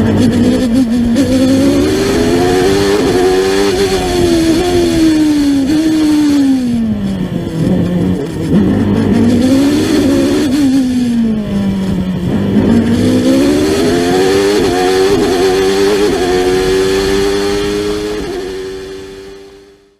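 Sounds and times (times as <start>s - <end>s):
racing car engine: 0.0s - 19.9s.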